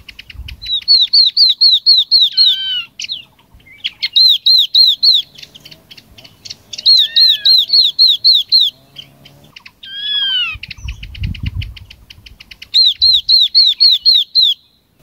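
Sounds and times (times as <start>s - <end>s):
bird dry chatter: 0.0s - 14.6s
bird whistling calls: 0.0s - 14.9s.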